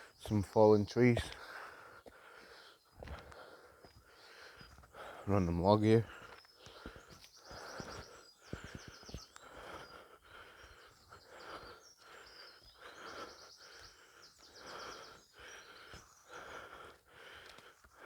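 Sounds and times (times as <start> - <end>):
songbirds trilling: 0.0 - 18.0.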